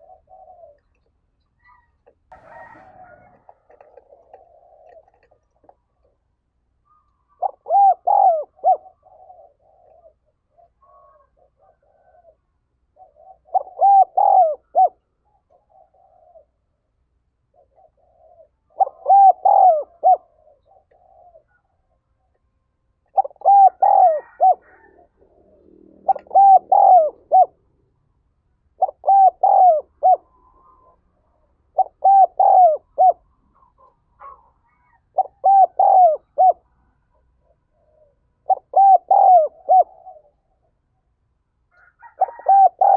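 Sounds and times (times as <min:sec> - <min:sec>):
dove cooing: 0:00.0 - 0:06.2, 0:06.9 - 0:16.8, 0:17.5 - 0:22.0, 0:23.1 - 0:27.9, 0:28.7 - 0:40.8, 0:41.7 - 0:42.9.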